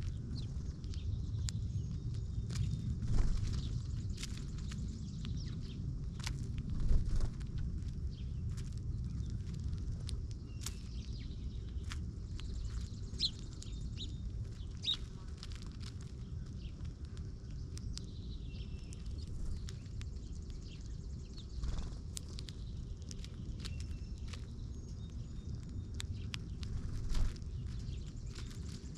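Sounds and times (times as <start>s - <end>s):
small birds chirping: 0.0s - 28.9s
steady low rumble: 0.0s - 28.9s.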